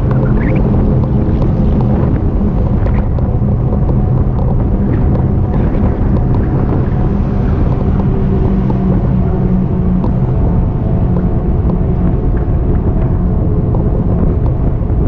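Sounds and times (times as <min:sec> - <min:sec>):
road rumble: 0:00.0 - 0:15.0
steady low hum: 0:00.0 - 0:15.0
wind buffeting microphone: 0:00.0 - 0:15.0.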